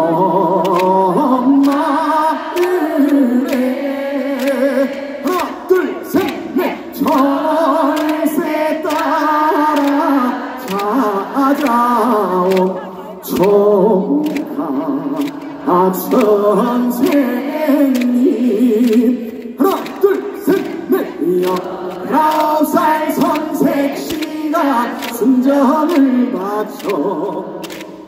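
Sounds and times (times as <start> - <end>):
man singing through microphone: 0.0 - 28.0
sharp claps: 0.6 - 28.0.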